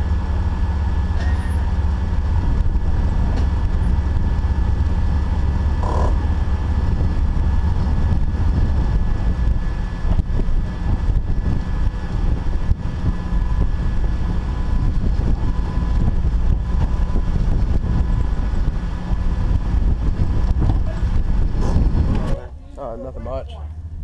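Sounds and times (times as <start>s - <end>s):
vehicle engine rumble with whine: 0.0s - 24.0s
wind buffeting microphone: 0.0s - 24.0s.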